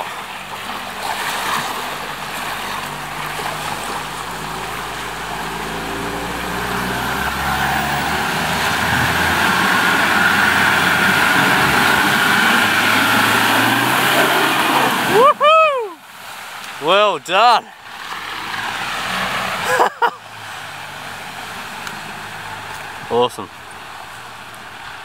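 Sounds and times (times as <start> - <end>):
engine labouring and revving: 0.0 - 25.0
water washing around vehicle: 0.0 - 25.0.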